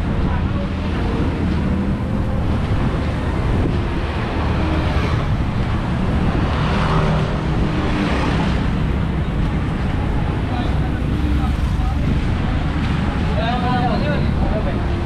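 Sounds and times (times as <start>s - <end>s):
road rumble: 0.0s - 15.0s
wind noise: 0.0s - 15.0s.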